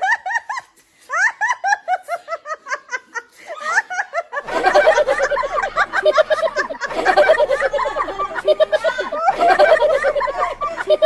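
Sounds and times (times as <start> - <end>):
women laughing: 0.0 - 11.0.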